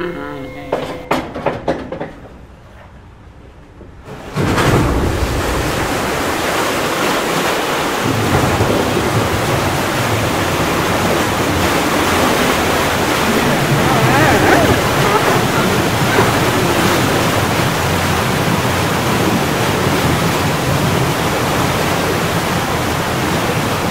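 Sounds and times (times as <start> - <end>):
rain-like rushing noise: 4.0 - 23.9.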